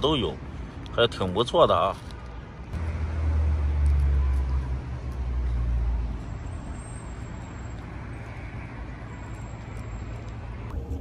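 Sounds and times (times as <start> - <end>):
hiss of street traffic: 0.0 - 11.0
low traffic rumble: 0.0 - 11.0.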